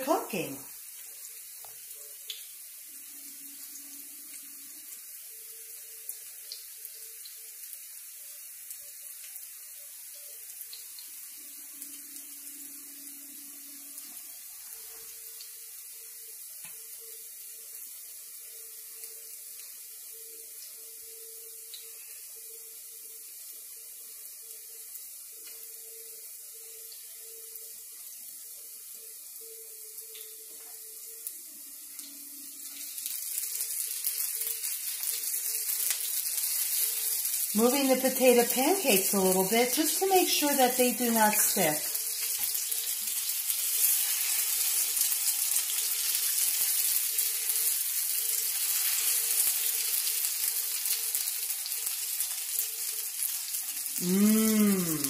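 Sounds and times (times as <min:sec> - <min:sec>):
oil sizzling in a skillet: 0:00.0 - 0:55.0.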